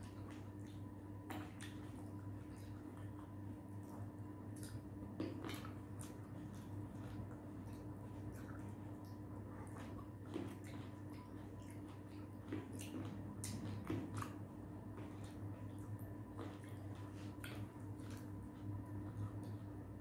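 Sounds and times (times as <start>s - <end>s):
low electrical hum: 0.0s - 20.0s
people chewing grapes: 0.0s - 20.0s.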